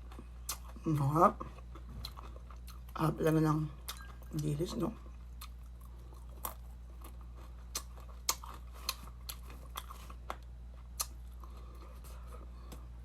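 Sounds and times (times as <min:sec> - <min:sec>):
crunchy chewing: 0:00.0 - 0:03.0, 0:03.8 - 0:12.9
steady low hum: 0:00.0 - 0:13.0.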